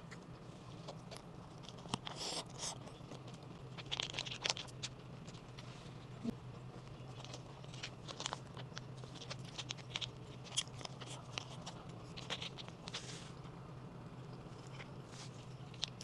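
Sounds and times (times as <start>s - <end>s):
steady low hum: 0.0s - 16.0s
crunching dried fish snack: 0.7s - 5.7s, 6.7s - 13.4s, 14.5s - 16.0s.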